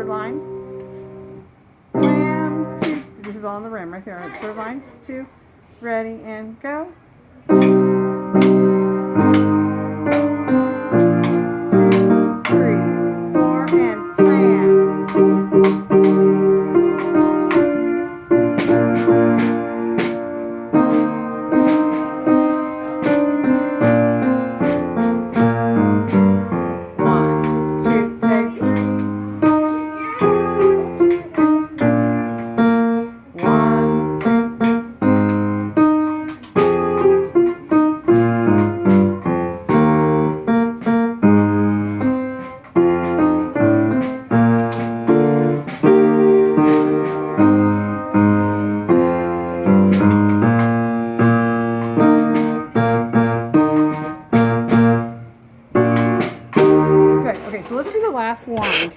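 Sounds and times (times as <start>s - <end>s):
rhythmic piano playing: 0.0s - 4.8s, 7.5s - 58.9s.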